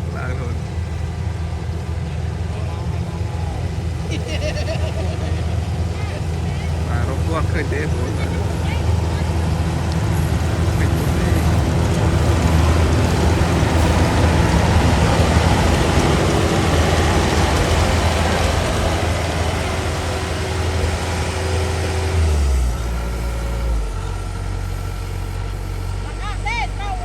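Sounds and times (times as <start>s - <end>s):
heavy engine rumbling: 0.0s - 27.0s.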